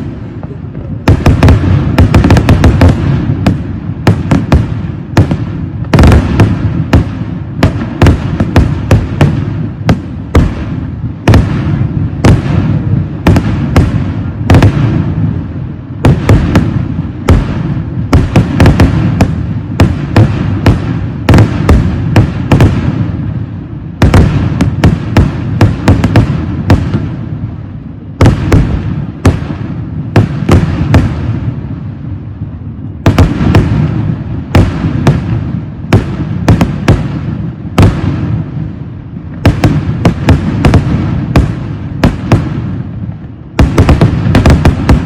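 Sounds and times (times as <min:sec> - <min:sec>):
fireworks blasts: 0:00.0 - 0:45.0
low rumble of explosions: 0:00.0 - 0:45.0.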